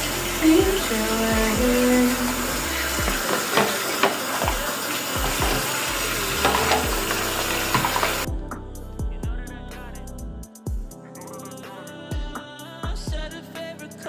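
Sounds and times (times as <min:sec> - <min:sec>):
background music with beat: 0:00.0 - 0:14.0.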